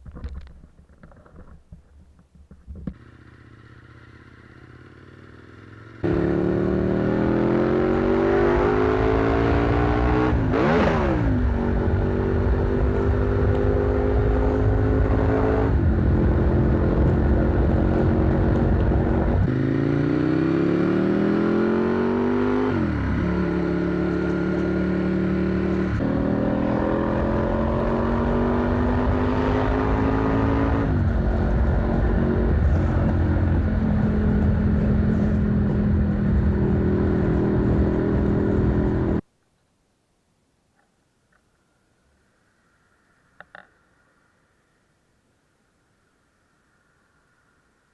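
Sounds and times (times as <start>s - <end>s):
motorcycle engine shifting gears: 0.0s - 39.2s.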